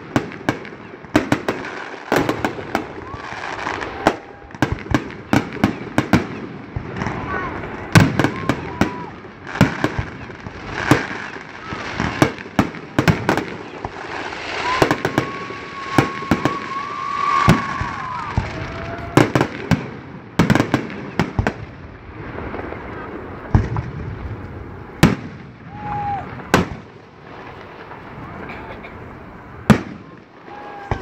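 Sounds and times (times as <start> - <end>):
fireworks bursting: 0.0 - 31.0
fireworks crackle: 0.0 - 31.0.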